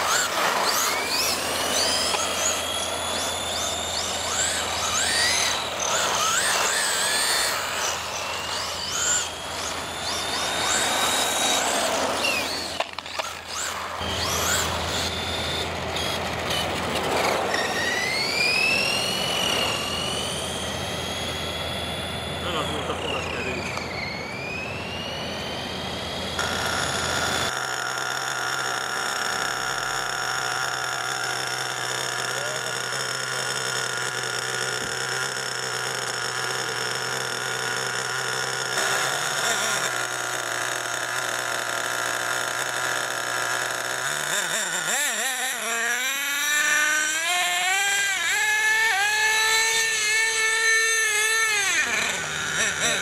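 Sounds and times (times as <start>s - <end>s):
model car motor humming and revving: 0.0s - 53.0s.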